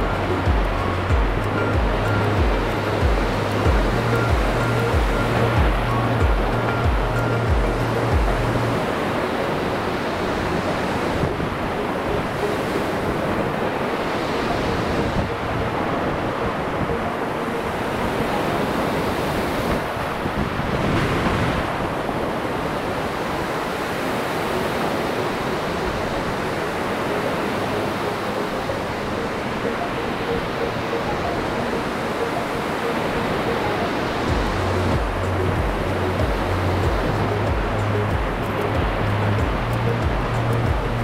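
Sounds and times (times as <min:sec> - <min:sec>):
wind on microphone: 0:00.0 - 0:28.0, 0:31.2 - 0:41.0
ocean surf breaking: 0:00.0 - 0:41.0.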